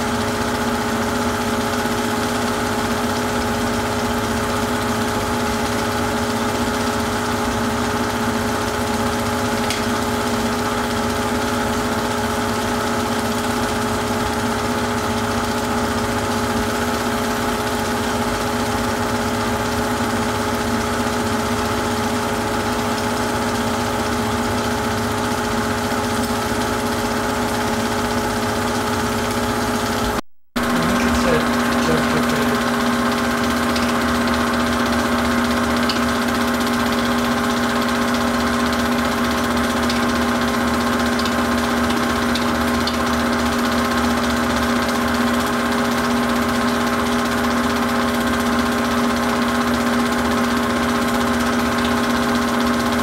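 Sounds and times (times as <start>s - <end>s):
film projector hum and whir: 0.0s - 53.0s.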